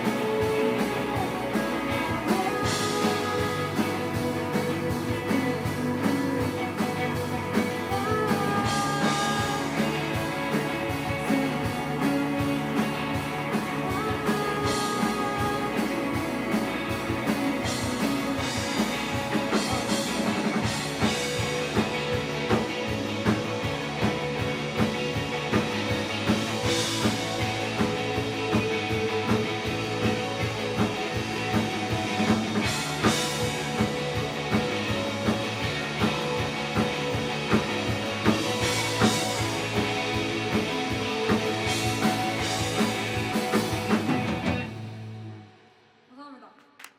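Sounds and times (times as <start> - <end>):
drum beat: 0.0 - 44.7
rock band playing live: 0.0 - 45.5.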